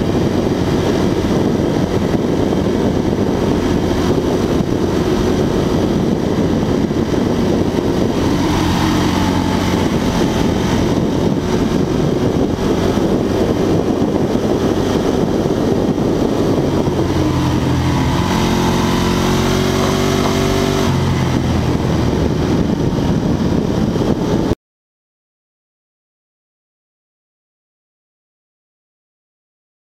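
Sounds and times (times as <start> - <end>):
motorcycle engine running: 0.0 - 24.6
wind rush: 0.0 - 24.6.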